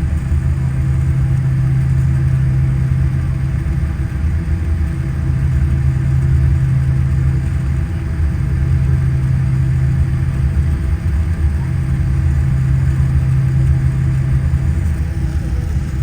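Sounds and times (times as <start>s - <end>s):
jet engines droning in cabin: 0.0s - 16.0s.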